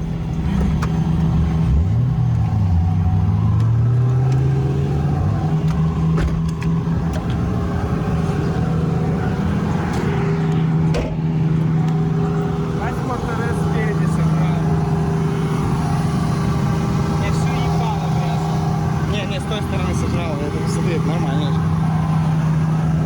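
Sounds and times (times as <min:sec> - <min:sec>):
car engines running: 0:00.0 - 0:23.0
engine revving: 0:00.0 - 0:23.0.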